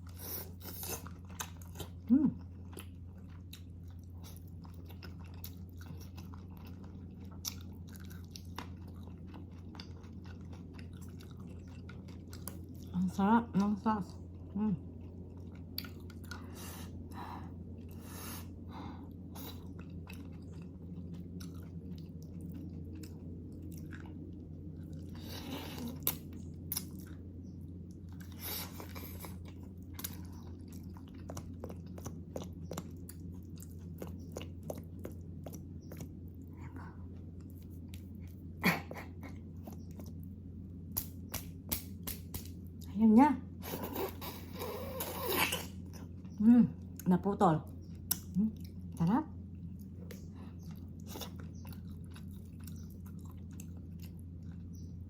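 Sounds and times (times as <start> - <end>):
wet chewing and mouth smacks: 0.0 - 12.9, 14.2 - 42.9, 47.7 - 55.0
steady low hum: 0.0 - 55.0.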